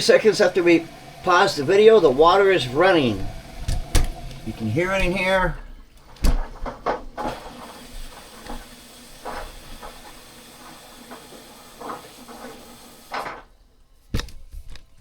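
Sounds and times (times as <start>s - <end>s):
water hissing into washing machine: 0.0s - 13.8s.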